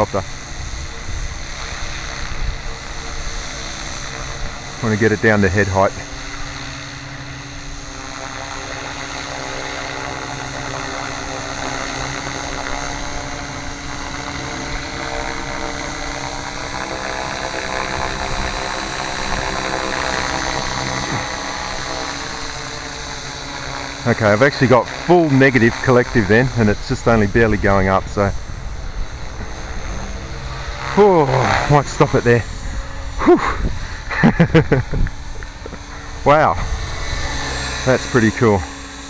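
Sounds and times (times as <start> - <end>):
helicopter rotor whine: 0.0 - 39.0
rotor blades beating: 0.0 - 39.0.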